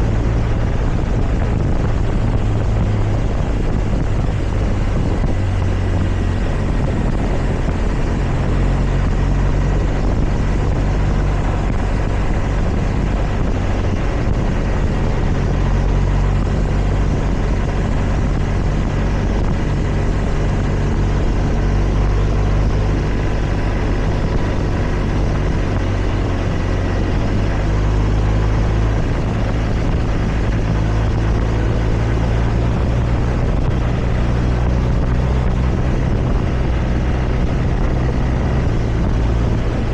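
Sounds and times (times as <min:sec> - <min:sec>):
motorcycle engine running: 0:00.0 - 0:39.9
rushing noise: 0:00.0 - 0:39.9.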